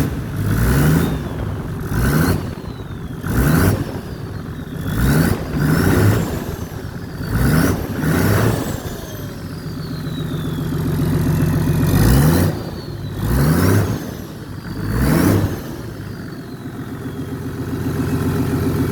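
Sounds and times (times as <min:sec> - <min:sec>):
diesel engine idling and blipped: 0:00.0 - 0:18.9
turbo whistling: 0:00.9 - 0:18.6.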